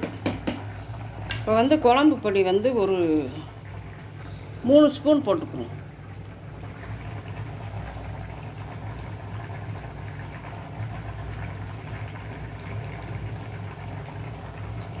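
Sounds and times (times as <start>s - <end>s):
curry bubbling: 0.0s - 15.0s.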